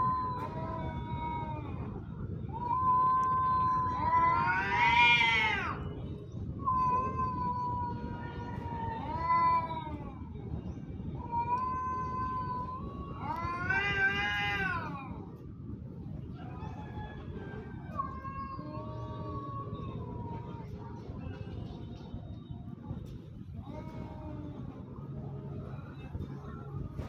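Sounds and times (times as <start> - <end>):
cats yowling in a fight: 0.0 - 5.9, 6.6 - 10.4, 11.1 - 15.4, 16.2 - 21.4, 23.4 - 27.0.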